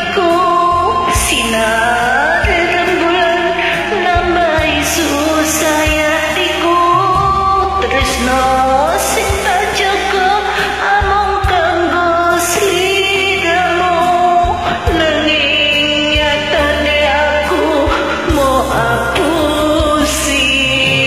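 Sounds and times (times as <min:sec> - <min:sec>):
person singing: 0:00.0 - 0:21.0
pop backing track with beat: 0:00.0 - 0:21.0.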